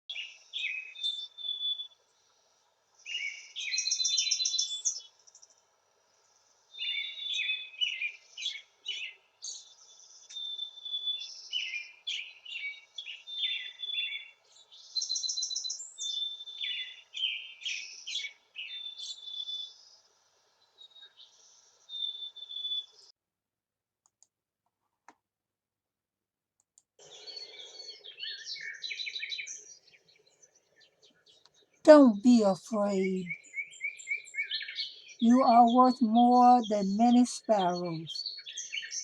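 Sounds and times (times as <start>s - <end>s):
songbird chirps and trills: 0.1s - 23.1s, 27.0s - 39.0s.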